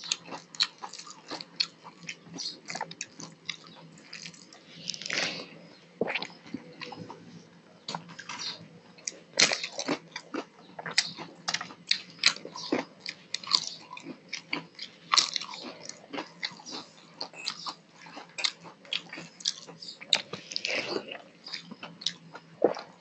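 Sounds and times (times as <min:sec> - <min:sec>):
person chewing: 0:00.0 - 0:07.3, 0:07.9 - 0:23.0.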